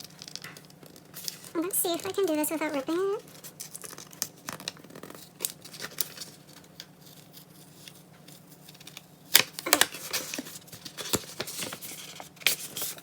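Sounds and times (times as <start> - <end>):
paper crackling: 0.0 - 13.0.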